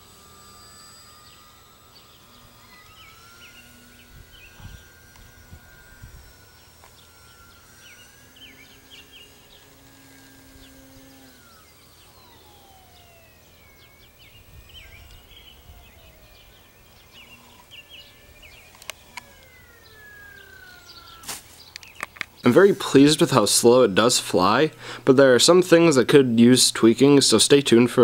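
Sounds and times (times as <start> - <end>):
high electric motor whine: 0.0 - 28.0.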